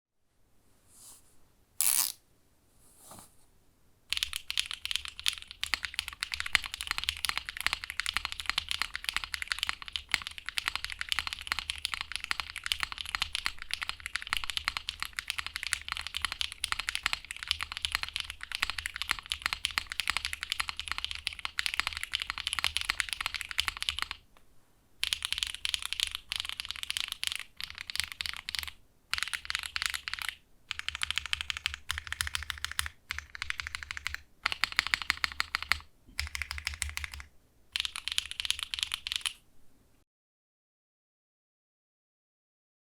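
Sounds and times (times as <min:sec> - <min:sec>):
typing on mechanical keyboard: 0:04.1 - 0:24.2, 0:25.0 - 0:39.4.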